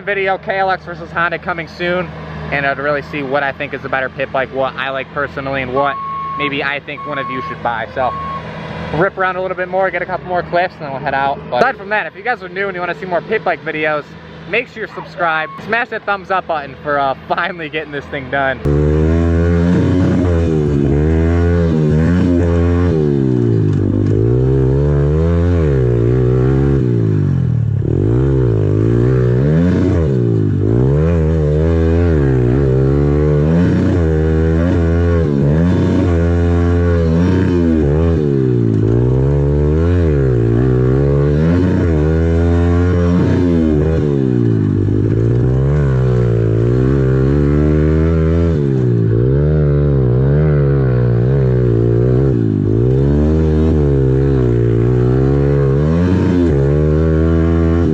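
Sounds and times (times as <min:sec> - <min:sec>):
pit bike engine revving: 0:00.0 - 0:57.9.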